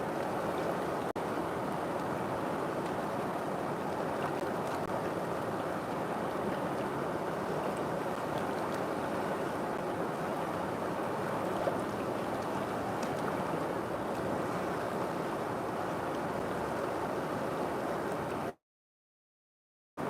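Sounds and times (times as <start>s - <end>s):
river water rushing: 0.0s - 18.6s.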